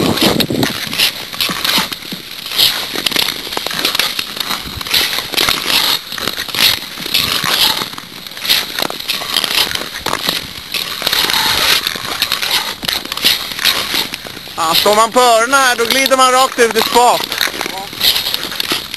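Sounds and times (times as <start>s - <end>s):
ice clicks and crackles: 0.0s - 18.9s
skate blades scraping ice: 0.0s - 18.9s.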